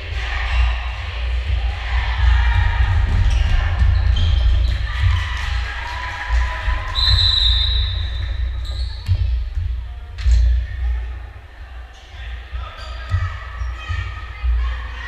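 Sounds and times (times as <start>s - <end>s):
low rumble in hall: 0.0s - 15.0s.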